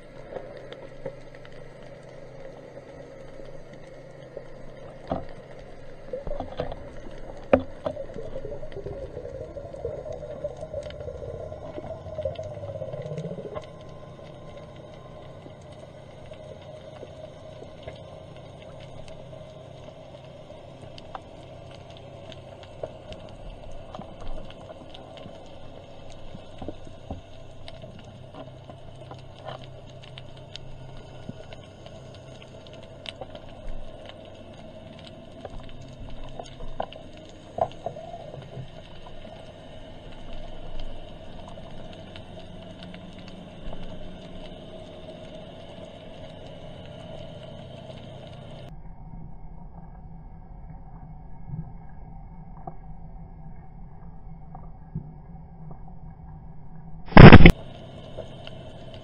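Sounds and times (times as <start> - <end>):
clicks and crackles: 0.0 - 48.7, 57.1 - 59.0
underwater low drone: 0.0 - 59.0.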